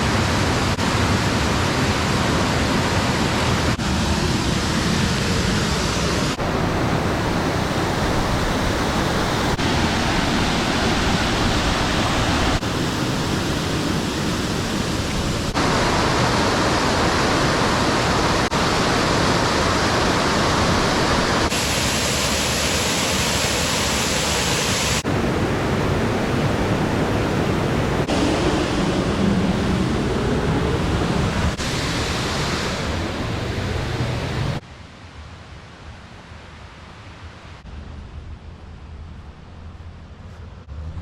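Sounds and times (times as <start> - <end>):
waterfall rushing: 0.0 - 34.6.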